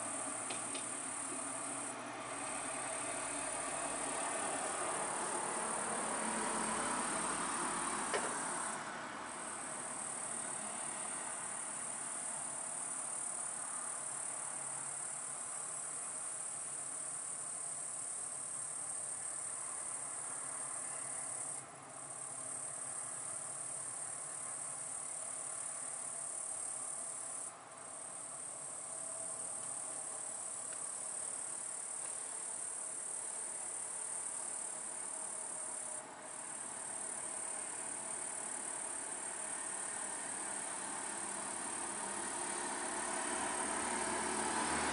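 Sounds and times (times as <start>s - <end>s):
crickets trilling: 0.0s - 44.9s
faint background hiss: 0.0s - 44.9s.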